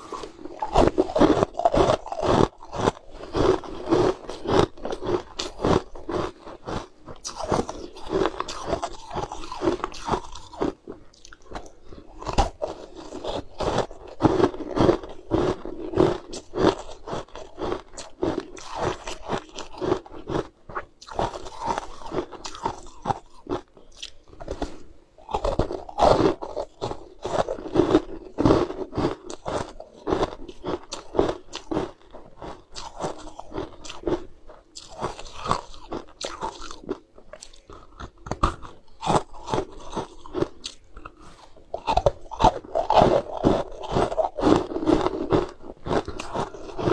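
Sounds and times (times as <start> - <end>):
crunching frozen balls: 0.0 - 46.9.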